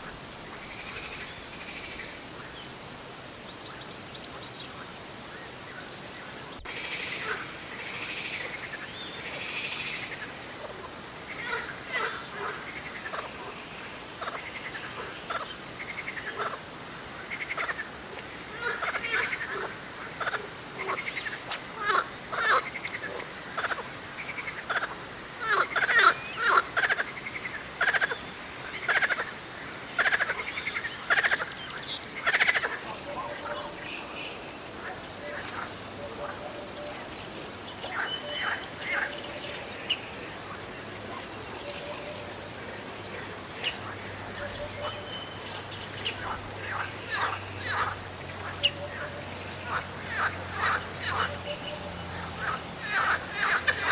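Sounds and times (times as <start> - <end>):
frogs croaking: 0.0 - 53.9.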